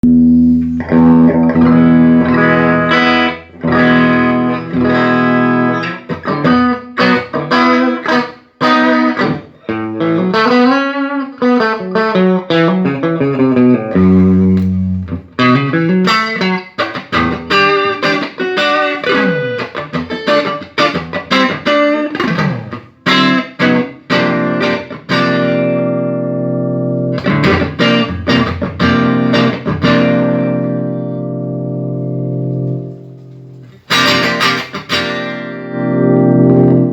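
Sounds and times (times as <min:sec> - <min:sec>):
electric guitar strumming and riffs: 0:00.0 - 0:36.9.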